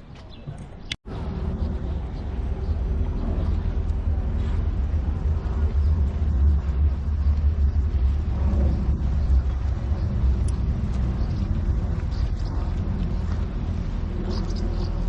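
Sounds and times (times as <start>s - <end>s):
outdoor city noise: 0.0s - 15.0s
low rumble: 1.1s - 15.0s.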